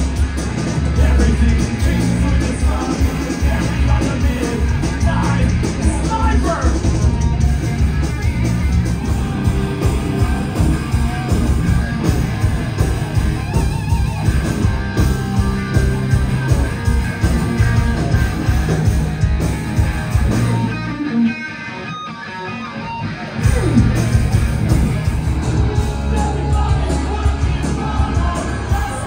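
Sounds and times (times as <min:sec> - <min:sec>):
hard rock band playing: 0:00.0 - 0:29.0.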